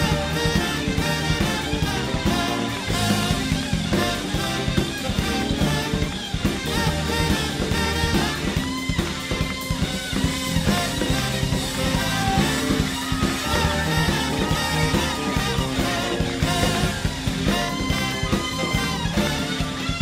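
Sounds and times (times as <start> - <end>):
jazz fusion band playing: 0.0 - 20.0.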